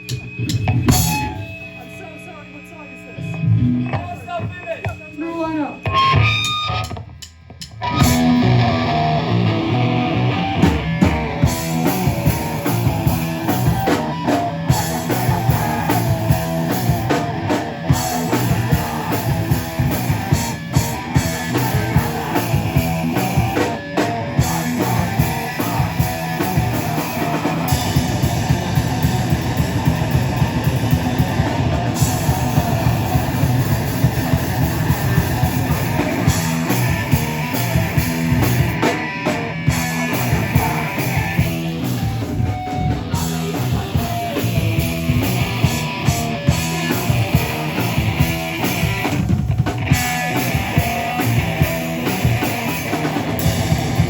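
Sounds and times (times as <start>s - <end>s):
live rock band playing loud: 0.0s - 54.0s.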